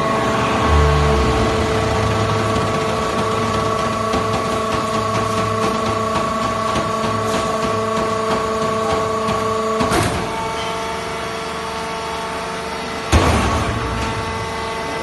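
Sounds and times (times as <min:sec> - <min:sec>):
hydraulic power unit whine: 0:00.0 - 0:15.0.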